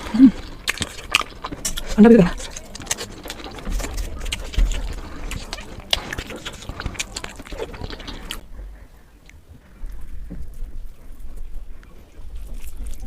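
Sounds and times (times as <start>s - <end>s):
chewing food crunches: 0.0s - 8.4s, 10.9s - 13.0s.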